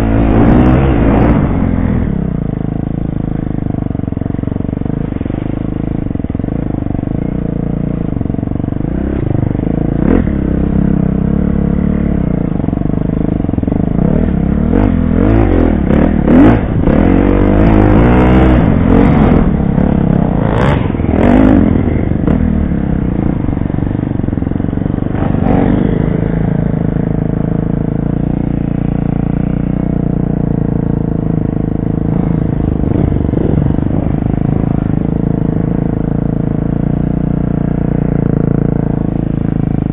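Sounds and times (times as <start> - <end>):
dirt bike engine revving: 0.0 - 6.2, 8.8 - 39.9.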